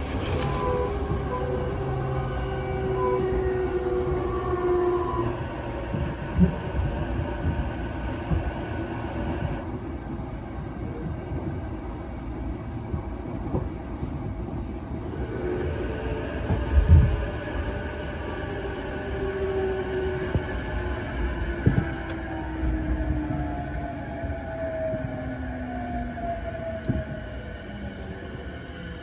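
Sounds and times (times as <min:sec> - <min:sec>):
wheels rumbling on track: 0:00.0 - 0:28.5.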